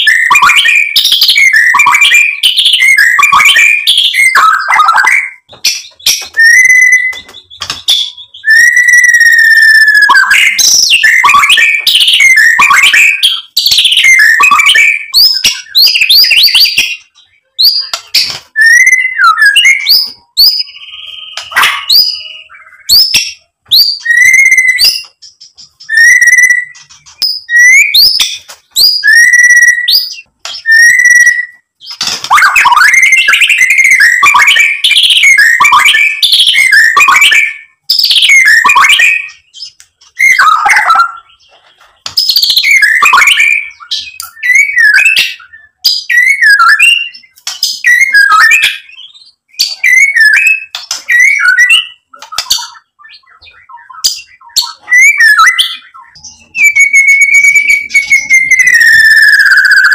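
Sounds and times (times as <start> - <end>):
bird singing whistles and chatter: 0.0 - 59.9.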